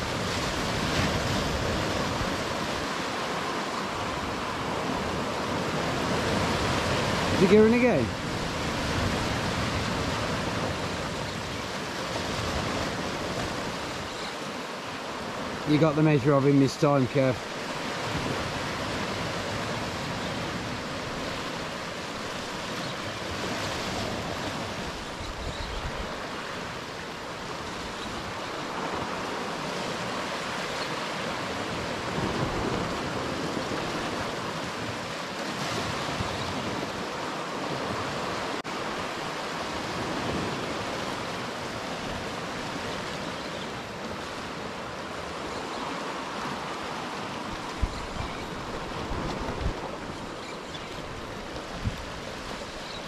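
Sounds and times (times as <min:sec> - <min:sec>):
waves washing against rocks: 0:00.0 - 0:53.0.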